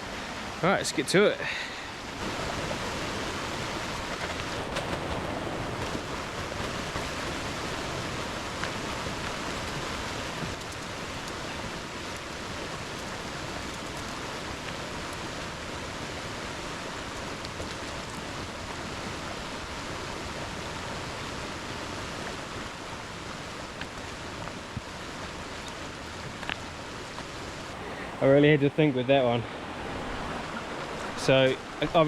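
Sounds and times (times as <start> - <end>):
stream rushing over stones: 0.0 - 32.0.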